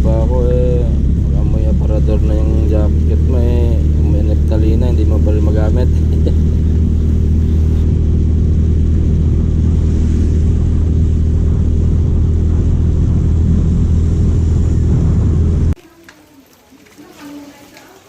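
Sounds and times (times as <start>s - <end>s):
loud low engine rumble: 0.0s - 15.8s.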